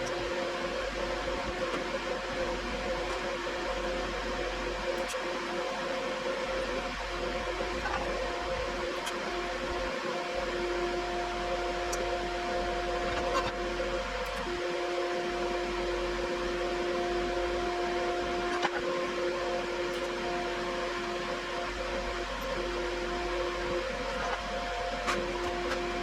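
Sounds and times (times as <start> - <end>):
welder electrical hum: 0.0 - 26.0.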